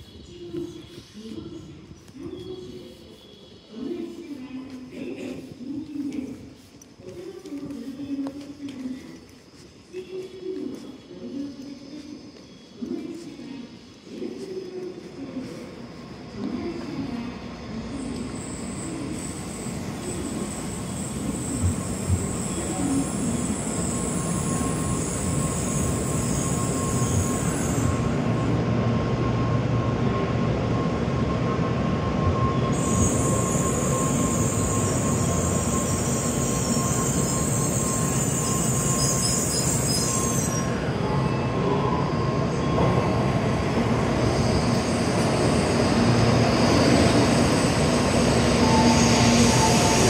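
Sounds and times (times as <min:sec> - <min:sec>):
bullet train running: 0:02.4 - 0:50.0.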